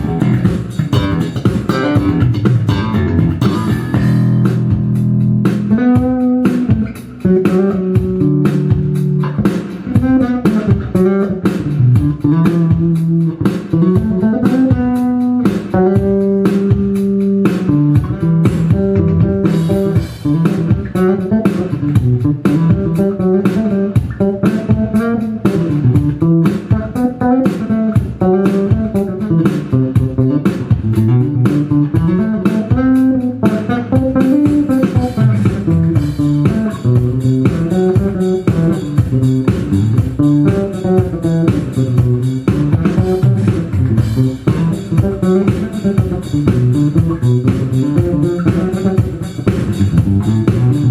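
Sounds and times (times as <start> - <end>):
electric bass playing: 0.0 - 50.9.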